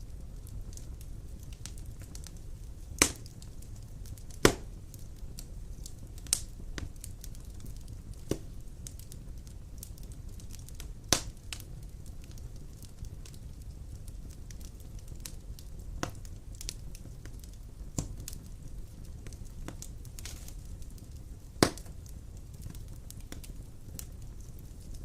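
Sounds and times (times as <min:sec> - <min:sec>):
fire crackling: 0:00.0 - 0:25.0
low rumble of flames: 0:00.0 - 0:25.0
sharp pops from fire: 0:00.0 - 0:25.0.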